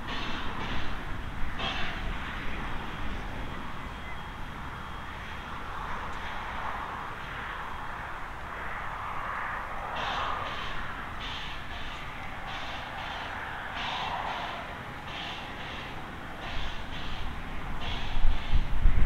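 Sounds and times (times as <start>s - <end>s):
steam hissing: 0.0s - 18.8s
steam locomotive rumble: 0.0s - 19.0s.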